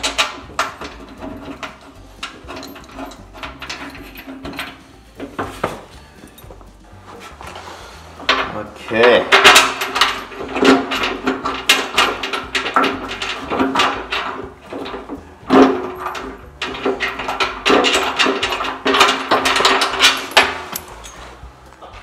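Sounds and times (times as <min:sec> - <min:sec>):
metal fittings knocking and clinking: 0:00.0 - 0:06.8, 0:08.2 - 0:22.0.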